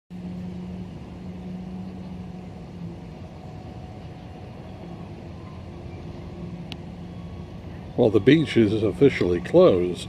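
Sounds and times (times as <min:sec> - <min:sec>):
motor humming: 0:00.1 - 0:10.0.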